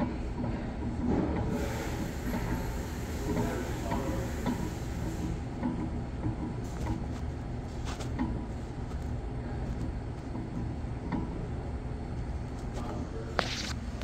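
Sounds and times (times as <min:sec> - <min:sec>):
blower fan rumble: 0:00.0 - 0:14.0.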